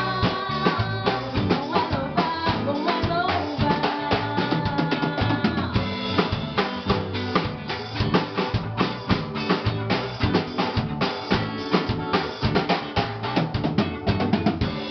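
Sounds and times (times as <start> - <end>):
carnival band music: 0.0 - 14.9
drum kit beating: 0.0 - 14.9.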